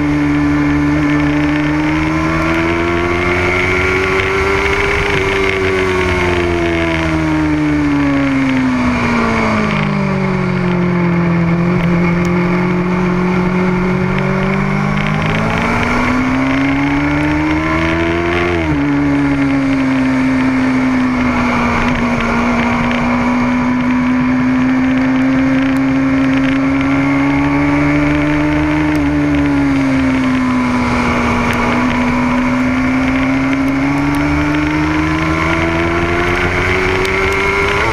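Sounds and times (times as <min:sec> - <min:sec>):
motorcycle engine on race track: 0:00.0 - 0:37.9.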